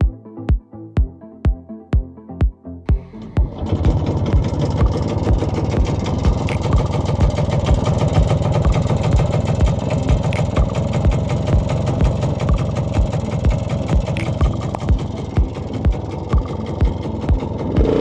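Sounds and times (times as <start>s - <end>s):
low thumps: 2.9s - 18.0s
scooter engine idling: 2.9s - 18.0s.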